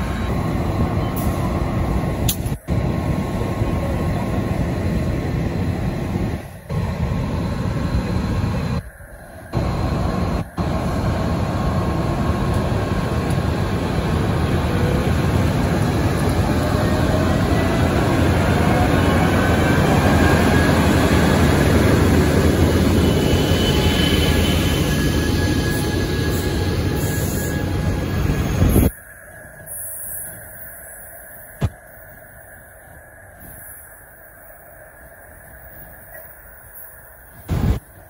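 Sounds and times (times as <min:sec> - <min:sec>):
train engine and wheels rumbling: 0:00.0 - 0:38.0.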